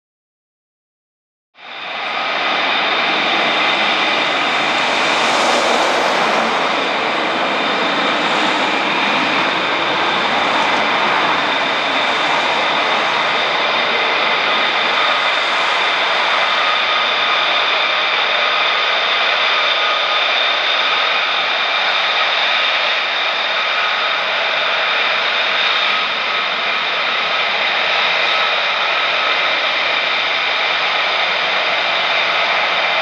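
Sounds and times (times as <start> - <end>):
jet engine roaring and whining: 1.6 - 33.0.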